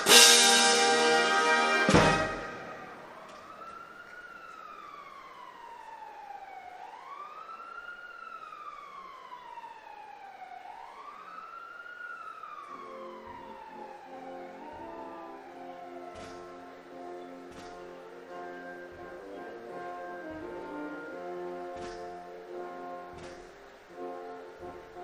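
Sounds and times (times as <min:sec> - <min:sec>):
emergency vehicle siren wailing: 0:00.0 - 0:25.0.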